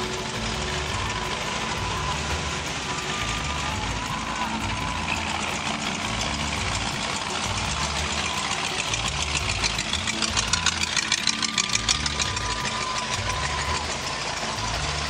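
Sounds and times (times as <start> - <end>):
cars idling driving past: 0.0 - 15.0
pickup exhaust pulsing: 0.0 - 15.0.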